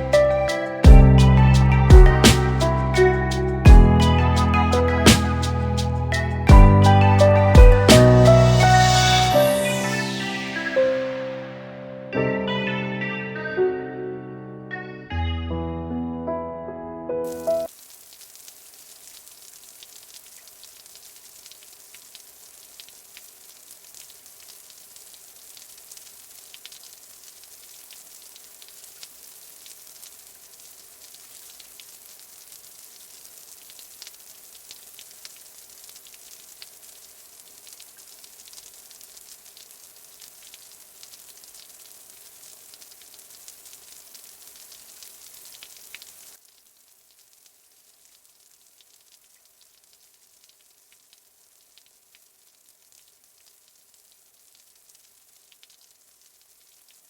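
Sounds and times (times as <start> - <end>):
steady rain falling: 0.0 - 11.8, 17.3 - 57.0.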